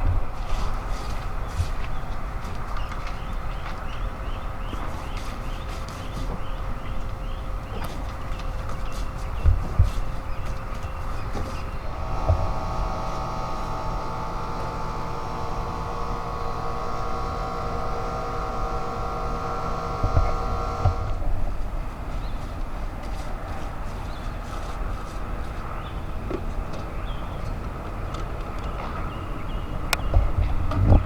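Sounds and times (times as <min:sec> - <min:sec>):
pitched mechanical drone: 0:00.0 - 0:21.9, 0:23.4 - 0:31.0
wind rumble on microphone: 0:00.0 - 0:31.0.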